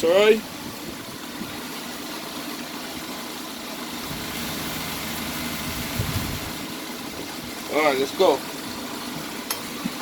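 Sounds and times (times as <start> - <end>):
engine hum: 0.0 - 10.0.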